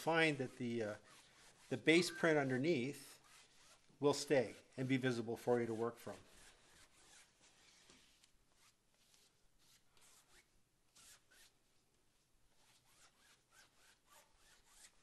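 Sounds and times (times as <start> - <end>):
brush swishing on canvas: 0.0 - 15.0.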